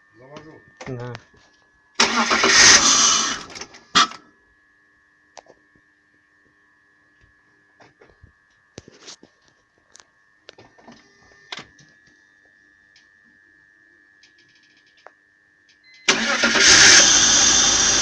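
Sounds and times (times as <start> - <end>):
high electrical whine: 0.0 - 18.0.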